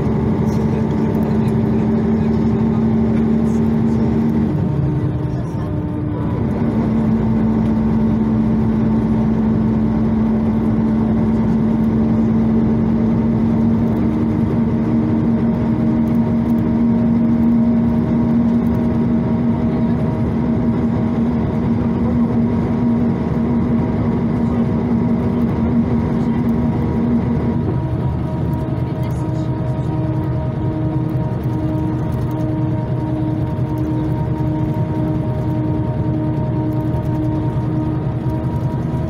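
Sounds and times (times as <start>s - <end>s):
bus diesel engine drone: 0.0s - 39.0s
road noise: 0.0s - 39.0s.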